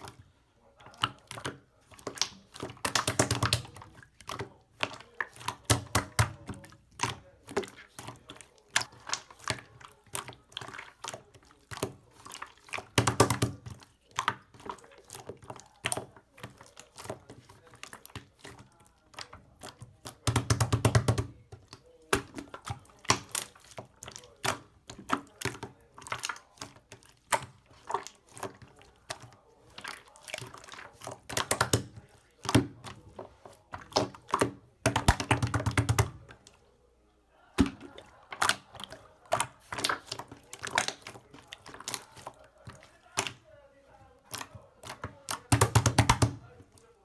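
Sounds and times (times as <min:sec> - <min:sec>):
hands squeezing slime: 0:00.8 - 0:36.6, 0:37.6 - 0:46.8.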